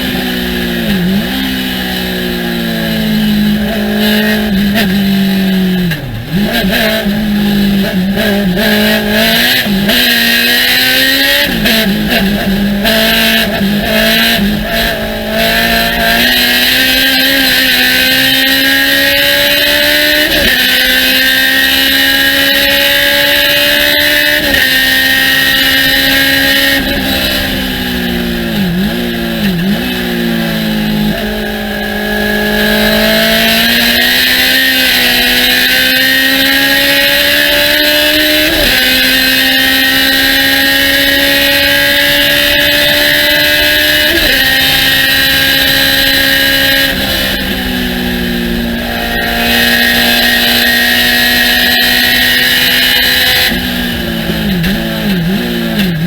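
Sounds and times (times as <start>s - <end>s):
race car engine revving: 0.0s - 56.0s
wind and road noise: 0.0s - 56.0s.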